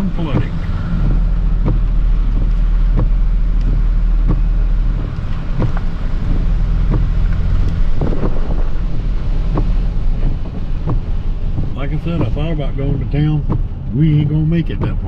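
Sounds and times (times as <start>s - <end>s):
engine and road rumble: 0.0s - 15.0s
regular sharp tick: 0.0s - 15.0s.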